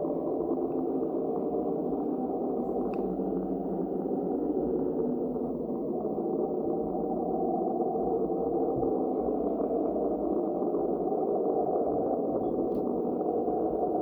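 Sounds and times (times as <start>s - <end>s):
steady rough underwater drone: 0.0s - 14.0s.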